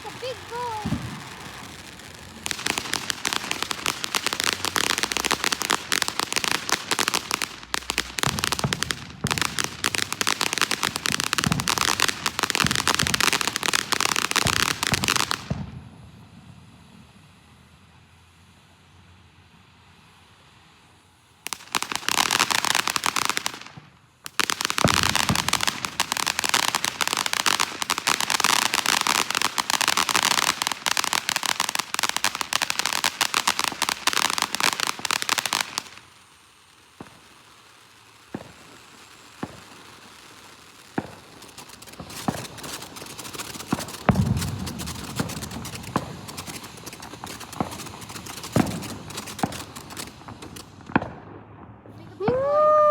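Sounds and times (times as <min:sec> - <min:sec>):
fireworks crackling pops: 0:00.0 - 0:52.9.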